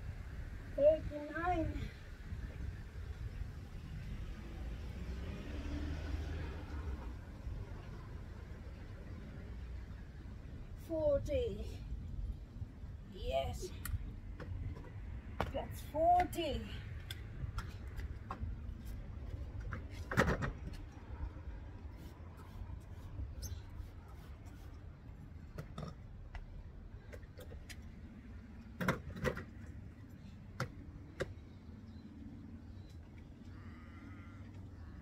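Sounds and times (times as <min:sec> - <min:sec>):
low outdoor rumble: 0:06.1 - 0:35.0.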